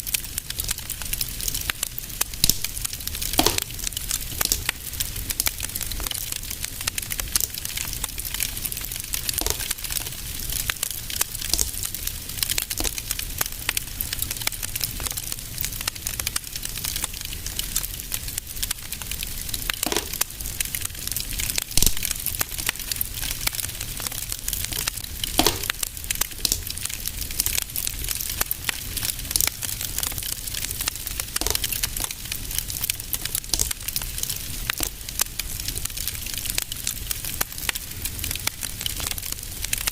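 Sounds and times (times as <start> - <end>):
fire popping: 0.0 - 39.9
fireplace fire crackling: 0.0 - 39.9.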